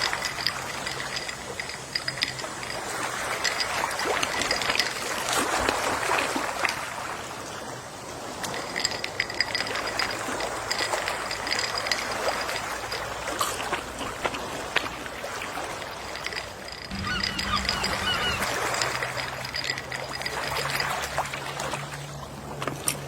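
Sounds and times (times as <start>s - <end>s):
sea waves washing on shore: 0.0s - 23.0s.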